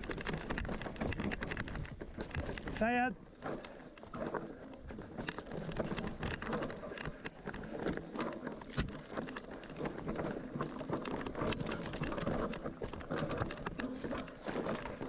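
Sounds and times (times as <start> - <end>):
bike tyres rolling through mud: 0.0 - 15.0.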